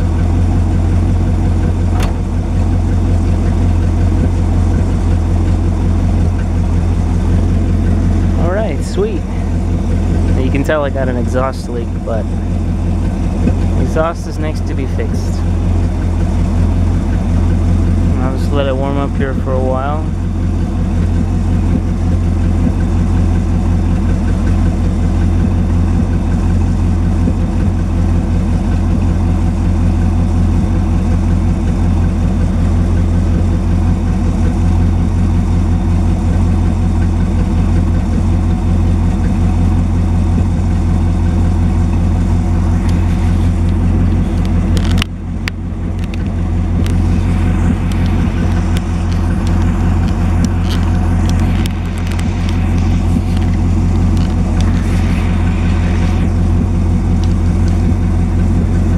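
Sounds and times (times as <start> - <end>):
car engine idling: 0.0 - 58.9
engine knocks: 0.0 - 58.9.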